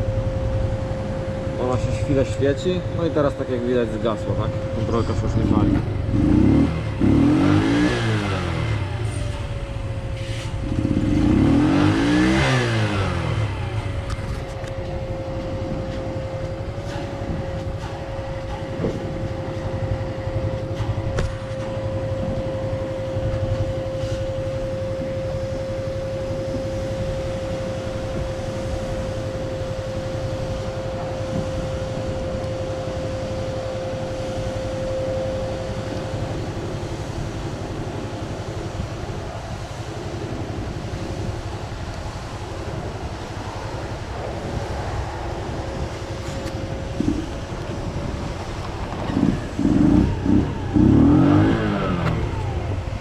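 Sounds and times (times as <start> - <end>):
motorcycle engine revving and idling: 0.0 - 53.0.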